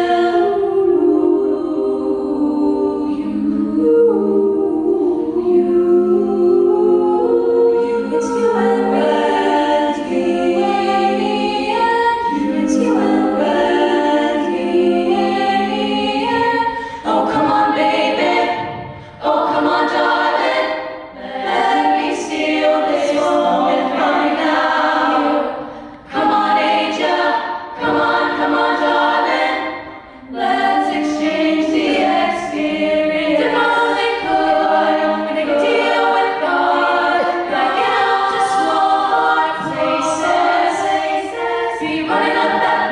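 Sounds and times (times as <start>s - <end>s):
a cappella vocal ensemble singing: 0.0s - 42.9s.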